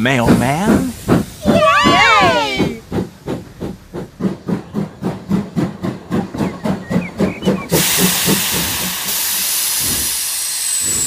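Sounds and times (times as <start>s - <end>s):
steam hissing: 0.0s - 11.0s
steam train chuffing: 0.0s - 11.0s.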